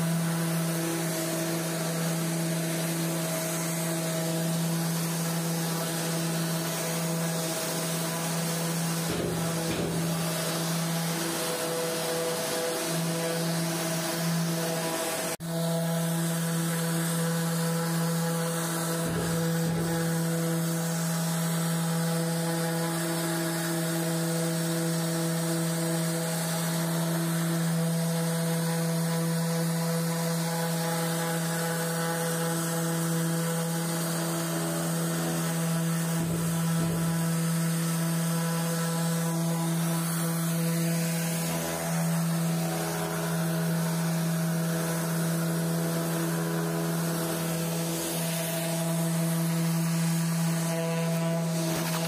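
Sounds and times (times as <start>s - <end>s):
orbital sander motor hum: 0.0s - 52.0s
sandpaper hissing on wall: 0.0s - 52.0s.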